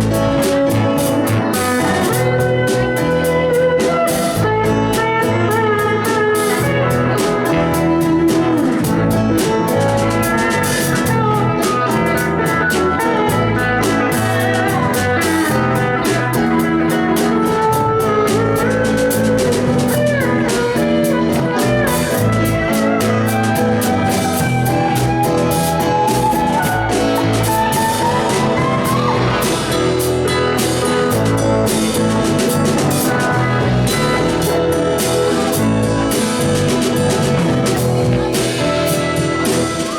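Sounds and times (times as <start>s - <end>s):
bass guitar: 0.0s - 39.9s
drum kit beat: 0.0s - 39.9s
lead guitar with bent notes: 0.0s - 39.9s.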